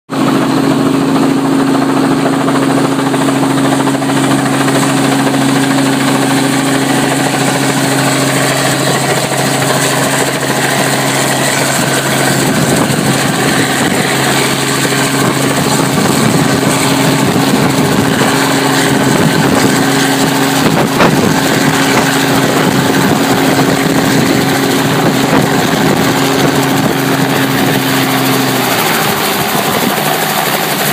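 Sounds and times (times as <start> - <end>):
helicopter engine drone: 0.1 - 30.9
helicopter rotor chop: 0.1 - 30.9.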